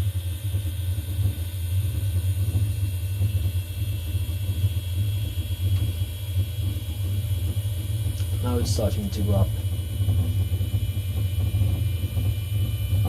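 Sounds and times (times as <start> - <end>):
cnc router axis humming: 0.0 - 13.0
faint high whine: 0.0 - 13.0.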